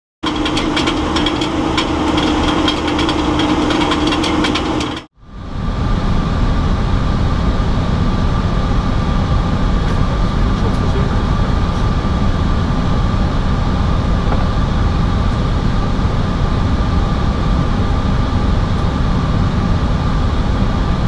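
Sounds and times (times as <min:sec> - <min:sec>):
aircraft cockpit rushing noise: 0:00.2 - 0:21.0
steady hum: 0:00.2 - 0:21.0
thin steady whine: 0:00.2 - 0:21.0.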